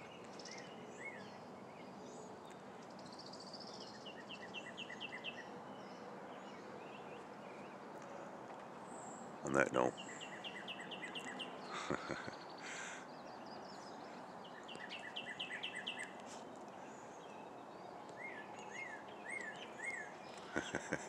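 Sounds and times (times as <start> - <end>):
songbirds singing: 0.0 - 21.0
steady outdoor hiss: 0.0 - 21.0.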